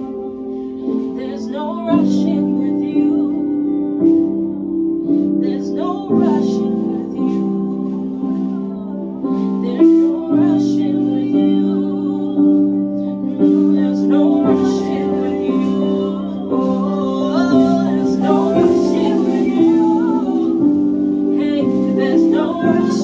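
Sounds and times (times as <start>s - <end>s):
person singing softly: 0.0s - 23.0s
sustained keyboard chords: 0.0s - 23.0s.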